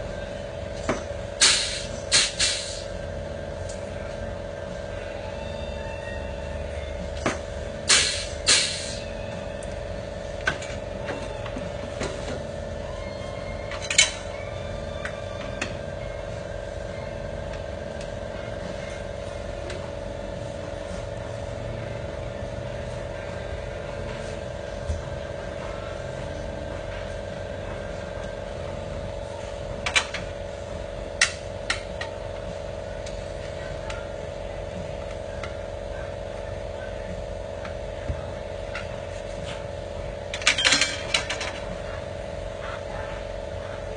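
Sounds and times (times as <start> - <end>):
steady mechanical hum: 0.0 - 43.9.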